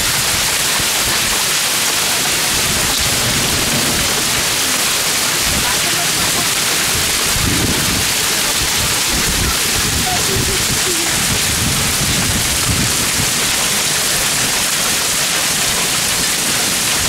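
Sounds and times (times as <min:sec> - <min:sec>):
hail and heavy rain pelting: 0:00.0 - 0:17.0.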